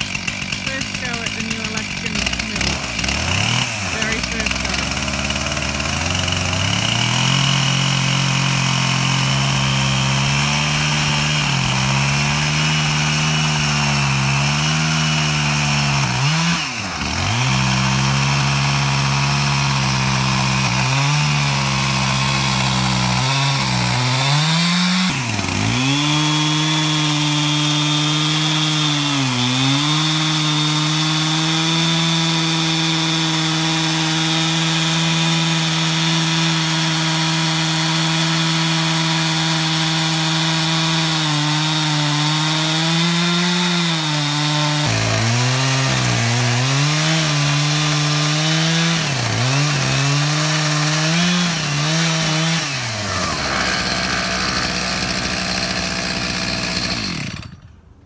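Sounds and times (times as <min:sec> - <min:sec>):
chainsaw ripping through log: 0:00.0 - 0:58.0.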